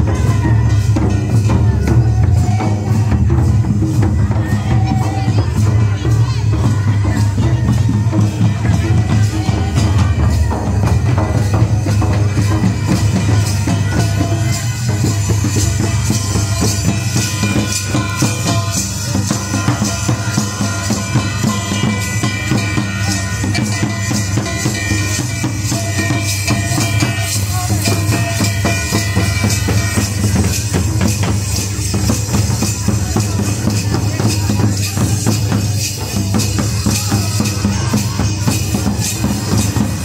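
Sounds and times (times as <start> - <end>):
fast drum beat: 0.0 - 40.0
jingling percussion: 0.0 - 40.0.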